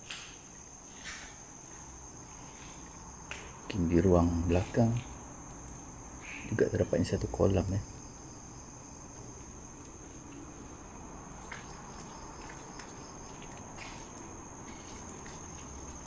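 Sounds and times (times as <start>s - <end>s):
night insects chirring: 0.0s - 16.0s.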